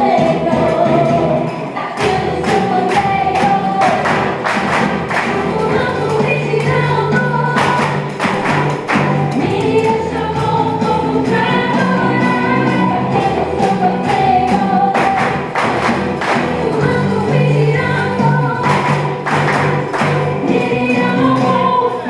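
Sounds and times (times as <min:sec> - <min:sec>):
group singing: 0:00.0 - 0:22.0
instrumental accompaniment: 0:00.0 - 0:22.0
percussion hits: 0:00.0 - 0:22.0.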